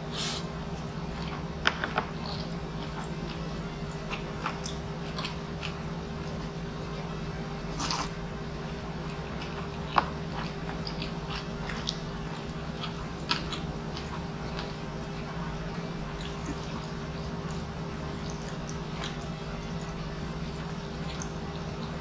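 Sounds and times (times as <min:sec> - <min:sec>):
man chewing food: 0:00.0 - 0:22.0
steady low hum: 0:00.0 - 0:22.0.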